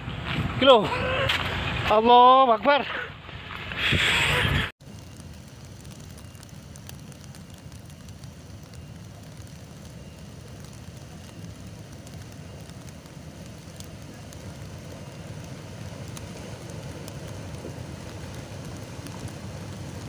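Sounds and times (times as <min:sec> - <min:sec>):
volcanic mudflow rumbling: 0:00.0 - 0:20.0.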